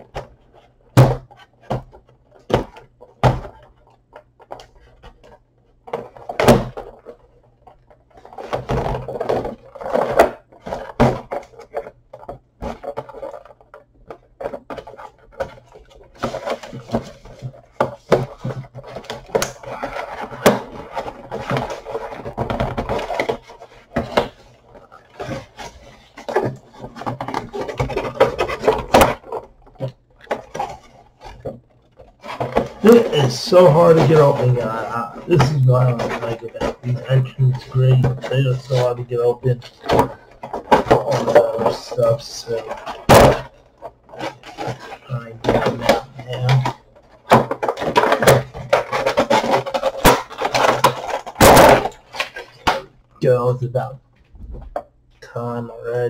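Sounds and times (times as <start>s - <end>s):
packaging knocks and clicks: 0.0s - 53.0s
packaging scraping and crackling: 0.0s - 53.9s.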